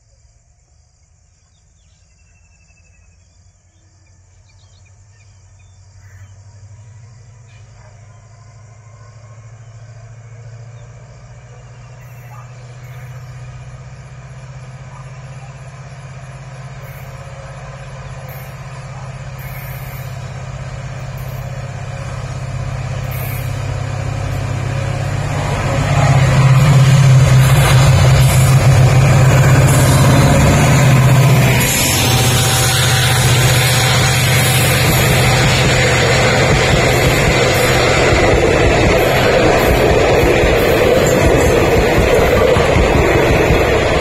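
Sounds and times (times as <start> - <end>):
diesel locomotive accelerating: 1.0 - 44.0
train coaches passing: 4.3 - 44.0.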